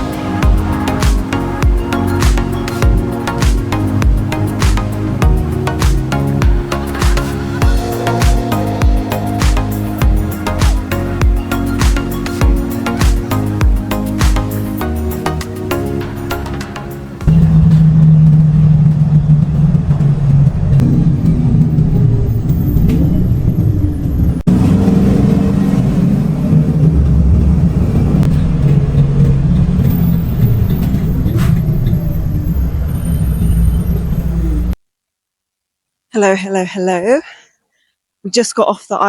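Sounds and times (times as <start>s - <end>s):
vehicle engine drone and road rumble: 0.0s - 34.8s.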